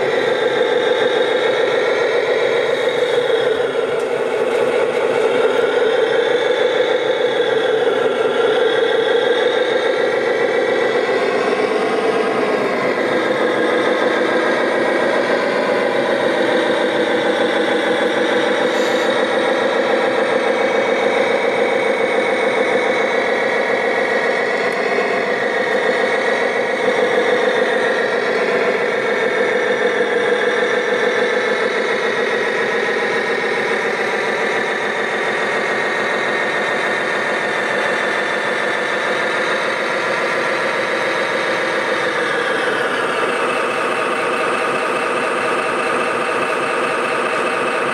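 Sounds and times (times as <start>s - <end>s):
model diesel engine idling: 0.0s - 47.9s.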